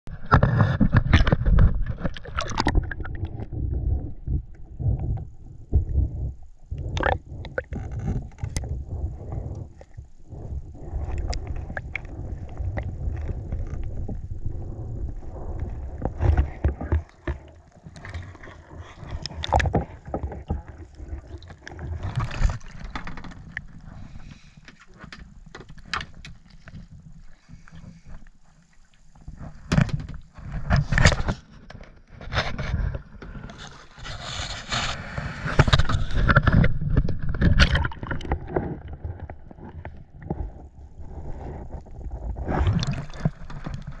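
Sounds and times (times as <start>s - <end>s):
water splashing and gurgling: 0.1s - 24.6s, 32.4s - 44.0s
paddle knocks and scrapes: 0.1s - 28.3s, 29.1s - 44.0s.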